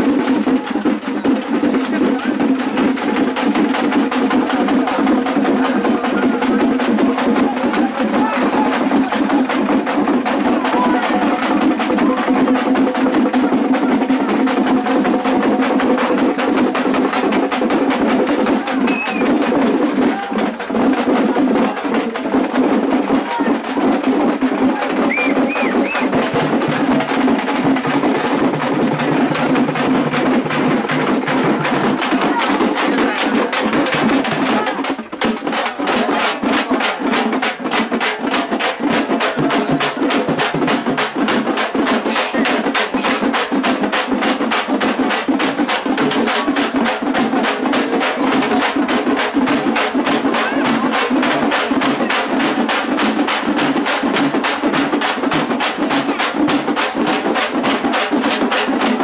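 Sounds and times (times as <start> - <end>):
drum band beating fast rhythm: 0.0 - 59.0.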